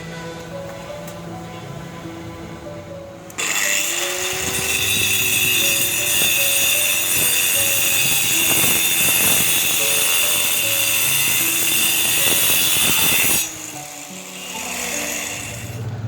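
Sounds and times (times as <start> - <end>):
background music: 0.0 - 16.0
power tool whining and grinding: 2.1 - 16.0.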